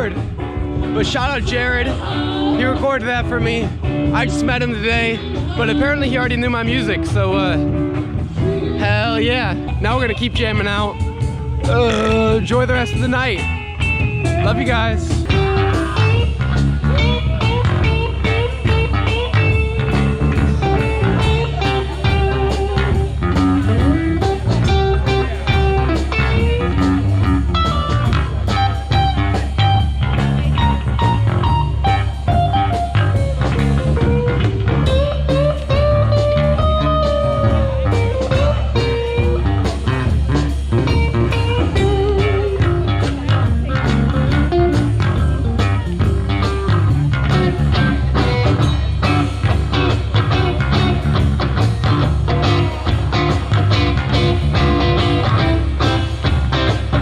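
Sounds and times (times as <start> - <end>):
blues-rock band playing: 0.0 - 57.0
guitar melodic lines: 0.0 - 57.0.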